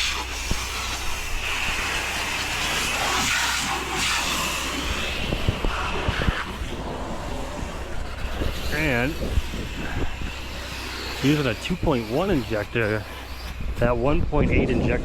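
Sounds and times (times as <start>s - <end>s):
water spray hissing: 0.0s - 13.8s
pressure washer running: 0.0s - 14.2s.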